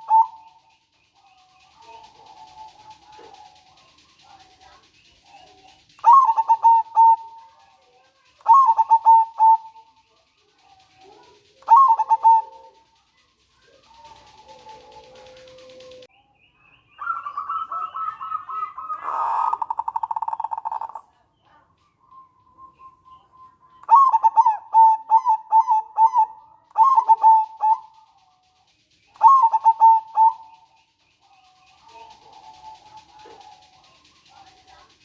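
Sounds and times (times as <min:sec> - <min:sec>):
dove cooing: 0:00.0 - 0:16.1, 0:17.0 - 0:21.6, 0:22.7 - 0:35.0
dove rattling trill: 0:00.0 - 0:16.1, 0:17.0 - 0:35.0.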